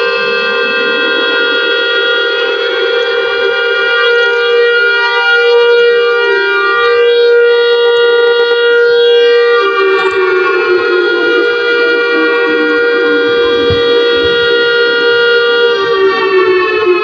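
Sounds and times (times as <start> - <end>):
buzzy electronic alarm tone: 0.0 - 17.0.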